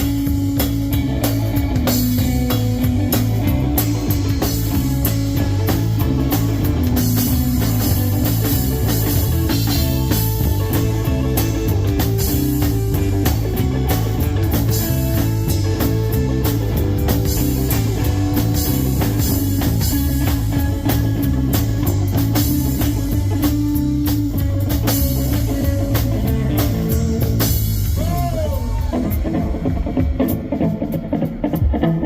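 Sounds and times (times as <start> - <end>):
bass guitar pattern: 0.0 - 32.0
drum kit: 0.0 - 32.0
electric guitar lines: 0.0 - 32.0.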